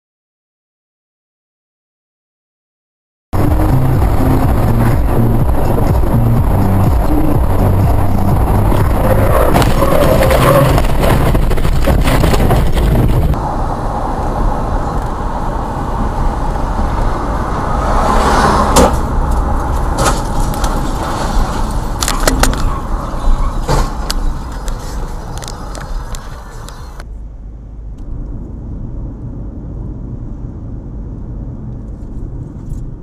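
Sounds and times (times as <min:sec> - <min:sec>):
car interior road and engine noise: 0:03.4 - 0:33.0.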